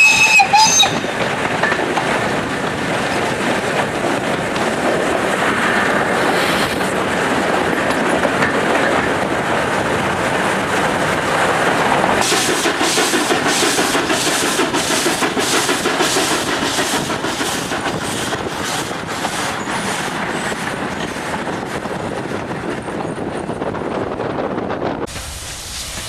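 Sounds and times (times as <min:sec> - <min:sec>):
steam locomotive chuffing: 0:00.0 - 0:09.8, 0:10.4 - 0:22.4, 0:25.1 - 0:26.0
rail noise: 0:00.0 - 0:26.0.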